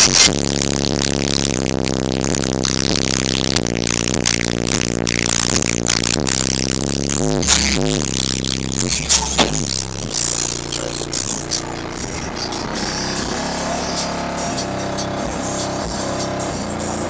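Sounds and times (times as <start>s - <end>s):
bass-heavy music on car stereo: 0.0s - 17.0s.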